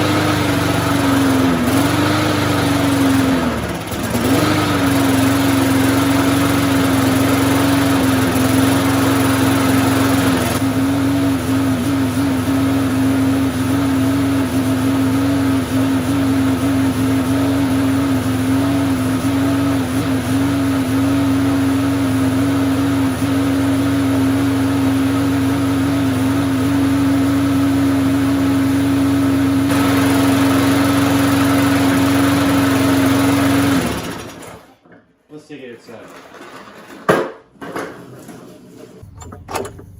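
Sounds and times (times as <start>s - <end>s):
lawn mower engine running: 0.0s - 34.8s, 39.0s - 39.9s.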